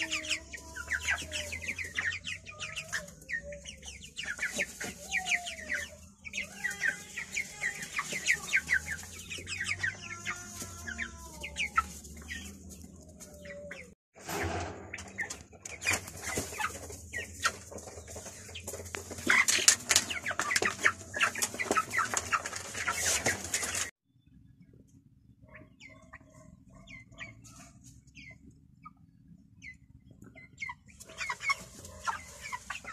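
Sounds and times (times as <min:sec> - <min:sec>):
chickens clucking: 0:00.0 - 0:23.9, 0:24.6 - 0:32.9
chicks peeping: 0:00.0 - 0:32.9.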